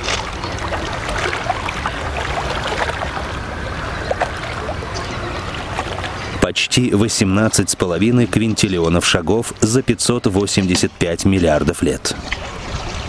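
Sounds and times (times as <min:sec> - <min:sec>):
water lapping around boats: 0:00.0 - 0:13.0.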